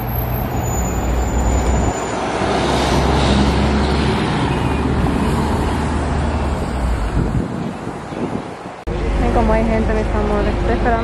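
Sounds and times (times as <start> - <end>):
bus diesel engine running: 0.0 - 11.0
cars passing: 0.0 - 11.0.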